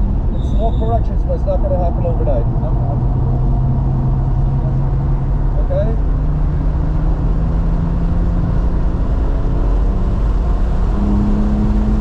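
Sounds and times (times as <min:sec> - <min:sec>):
road and wind rumble: 0:00.0 - 0:12.0
car engine running hard: 0:01.0 - 0:12.0.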